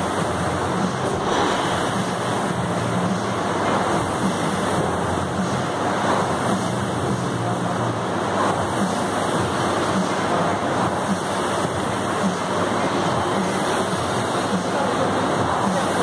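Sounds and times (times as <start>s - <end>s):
rowing machine fan whooshing: 0.0s - 16.0s.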